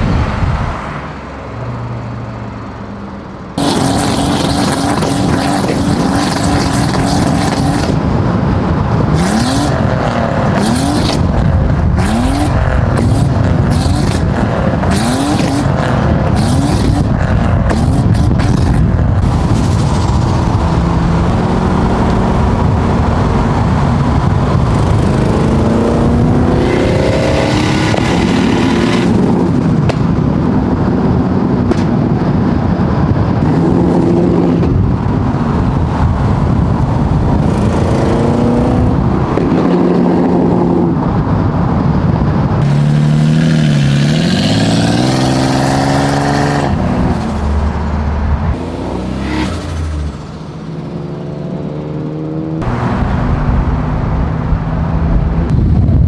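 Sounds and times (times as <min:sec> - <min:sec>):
car engines revving: 0:00.0 - 0:56.0
road noise: 0:00.0 - 0:56.0.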